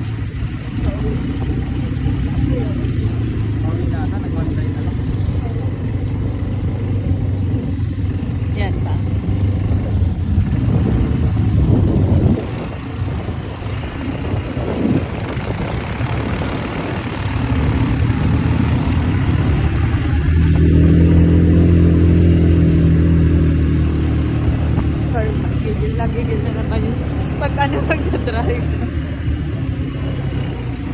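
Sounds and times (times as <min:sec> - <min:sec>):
atv engine running: 0:00.0 - 0:30.9
rumble of riding: 0:00.0 - 0:30.9.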